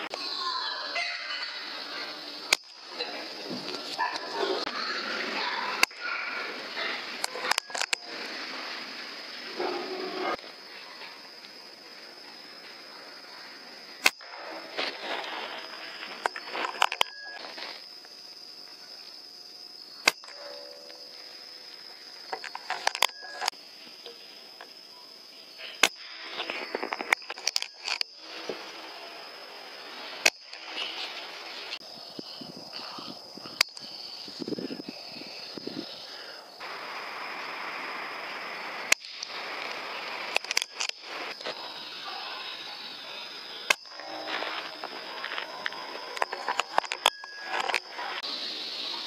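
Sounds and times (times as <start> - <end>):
crickets chirring: 0.0 - 49.0
steady hiss with high tone: 0.0 - 49.0.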